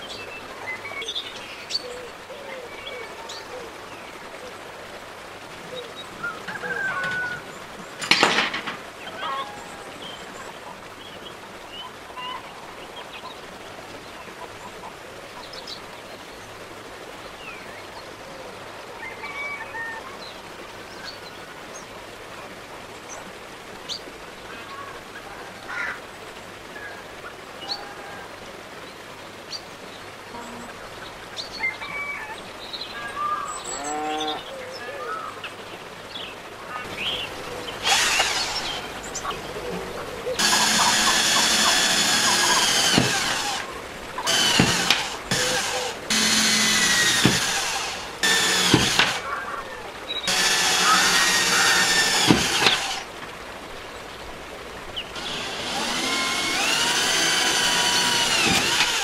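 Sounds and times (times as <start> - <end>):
birds calling: 0.0 - 59.0
steady background hiss: 0.0 - 59.0.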